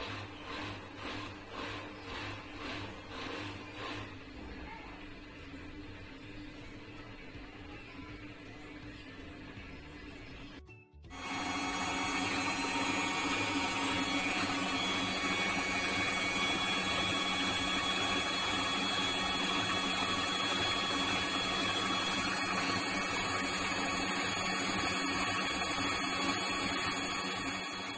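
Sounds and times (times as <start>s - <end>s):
washing machine running: 0.0s - 27.9s.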